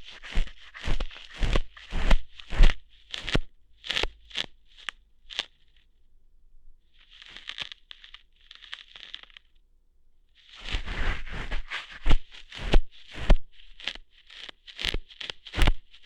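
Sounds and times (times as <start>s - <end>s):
close crackling and scraping: 0.0s - 5.9s, 6.9s - 9.6s, 10.4s - 16.0s
soft rustling: 0.0s - 5.9s, 6.8s - 9.5s, 10.4s - 16.0s.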